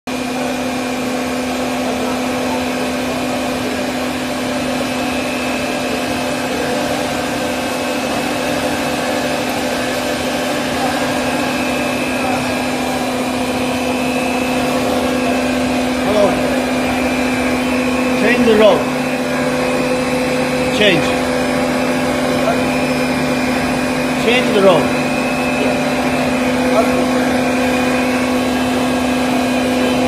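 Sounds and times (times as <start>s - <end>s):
machine hum with high whine: 0.1s - 30.0s.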